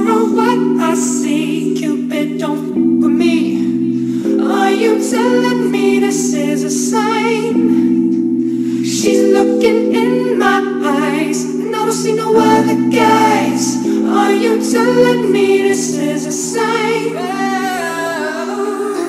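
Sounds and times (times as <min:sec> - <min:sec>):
slow song with layered vocals: 0:00.0 - 0:19.0.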